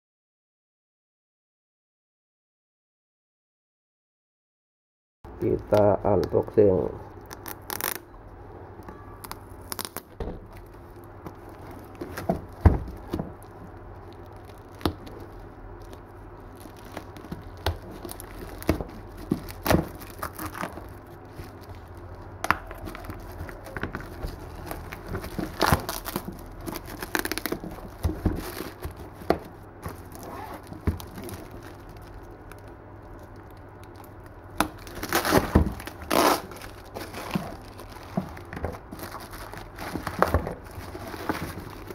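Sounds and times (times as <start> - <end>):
plastic wrapping tearing and crinkling: 7.2 - 8.1, 9.2 - 41.9.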